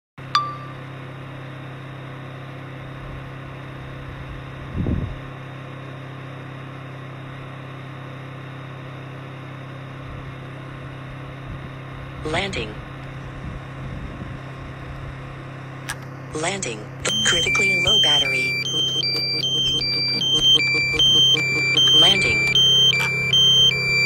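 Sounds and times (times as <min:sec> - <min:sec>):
low mechanical hum: 0:00.2 - 0:24.0.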